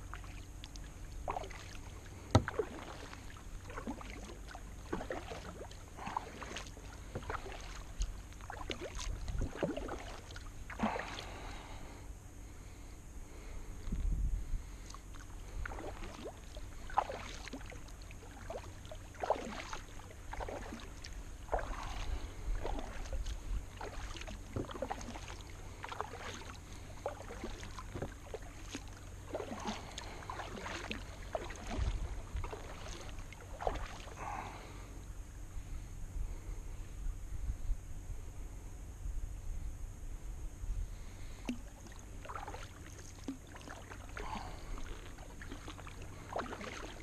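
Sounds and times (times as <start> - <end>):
paddle splashing in water: 0.0 - 11.8, 14.8 - 34.8, 41.2 - 47.0.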